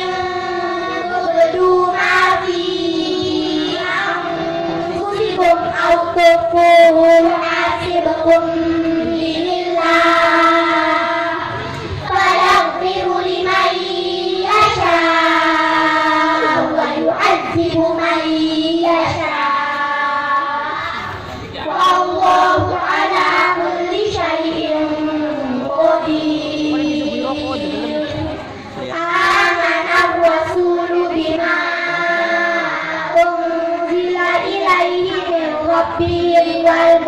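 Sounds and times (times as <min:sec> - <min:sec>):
children singing over loudspeakers: 0:00.0 - 0:37.0.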